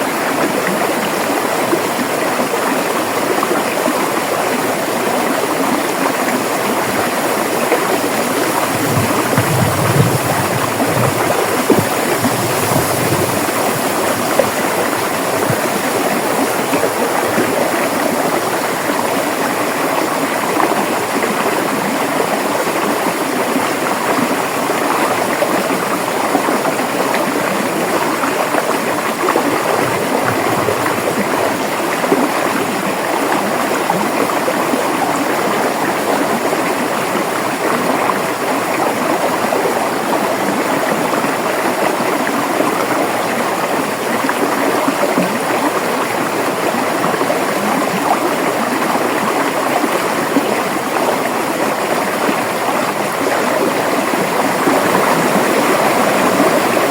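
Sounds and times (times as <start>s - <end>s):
river water rushing over rocks: 0.0s - 56.9s
water splashes and gurgles: 0.0s - 56.9s.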